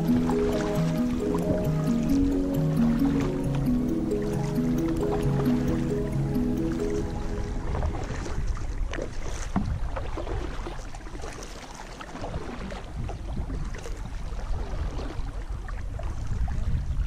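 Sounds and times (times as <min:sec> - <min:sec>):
wind on microphone: 0:00.0 - 0:10.8, 0:12.2 - 0:17.0
paddle splashing in water: 0:00.0 - 0:17.0.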